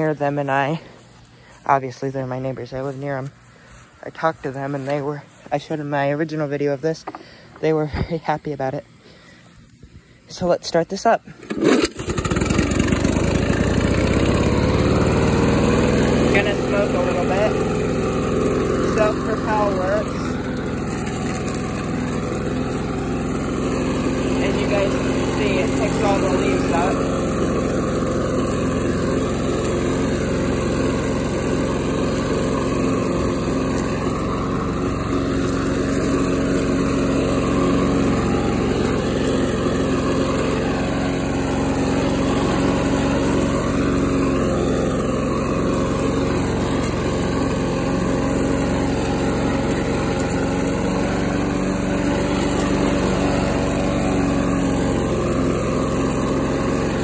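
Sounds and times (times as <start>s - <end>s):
lawn mower engine running: 0.0s - 57.0s
mower cutting grass and leaves: 0.0s - 57.0s.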